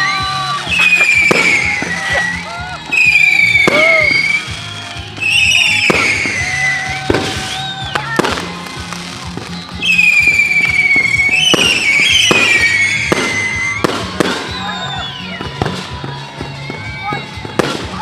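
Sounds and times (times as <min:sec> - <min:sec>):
firework bangs and crackles: 0:00.0 - 0:18.0
firework whistles falling in pitch: 0:00.0 - 0:18.0.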